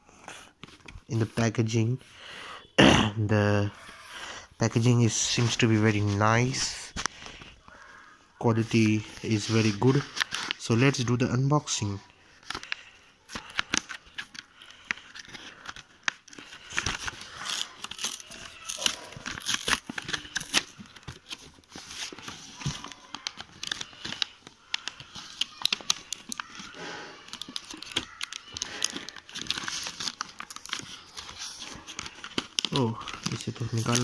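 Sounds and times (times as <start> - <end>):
plastic blister pack crinkling: 4.7 - 11.2, 12.1 - 34.0.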